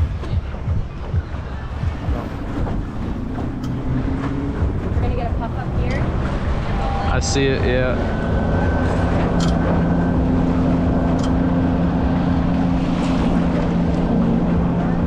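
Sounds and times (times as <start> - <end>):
water rushing along hull: 0.0 - 15.0
wind buffeting microphone: 0.0 - 15.0
steady low hum: 1.6 - 15.0.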